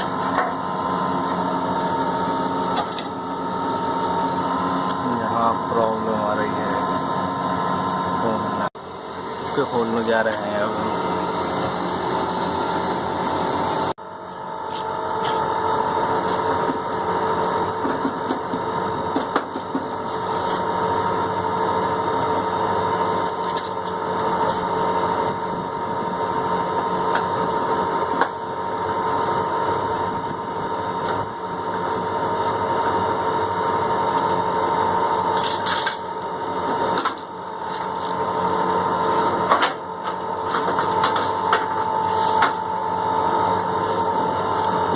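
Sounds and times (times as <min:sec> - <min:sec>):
machinery hum with whine: 0:00.0 - 0:44.9.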